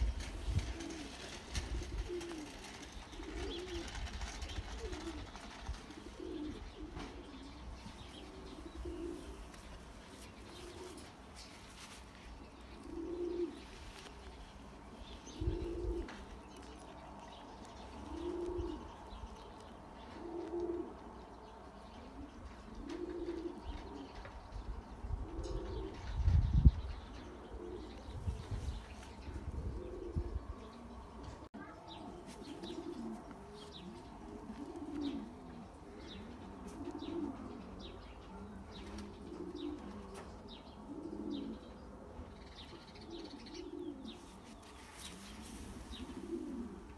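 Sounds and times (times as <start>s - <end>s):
pigeons cooing: 0.0s - 11.3s, 12.4s - 46.9s.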